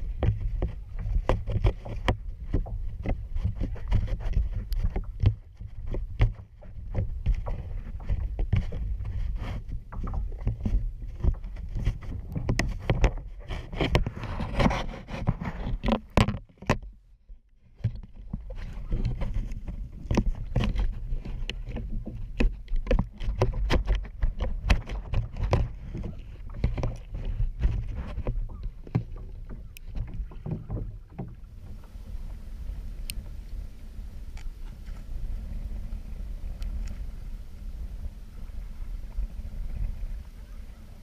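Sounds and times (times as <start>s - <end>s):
water splashing against kayak: 0.0s - 41.0s
wind rumble on microphone: 0.0s - 41.0s.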